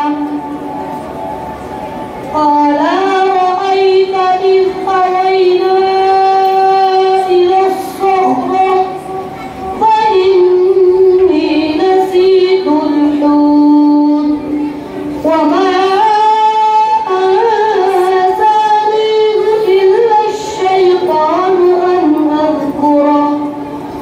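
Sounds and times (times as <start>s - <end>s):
boy reciting melodically: 0.0s - 0.6s, 2.2s - 24.0s.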